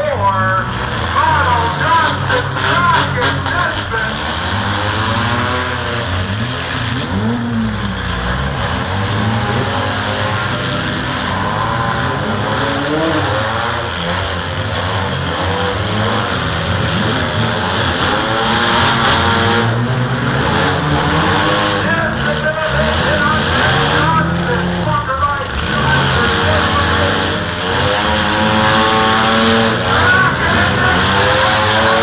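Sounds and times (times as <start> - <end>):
small car engines revving: 0.0 - 32.0.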